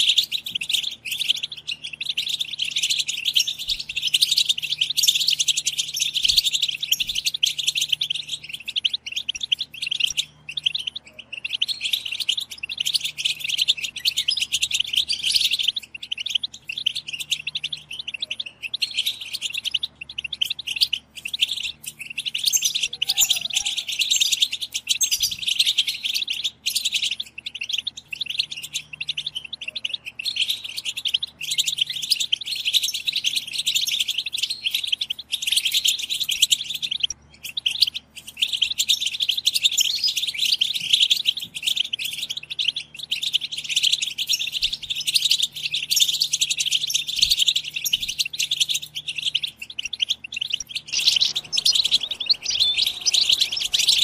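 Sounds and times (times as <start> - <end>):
finches twittering: 0.0 - 54.0.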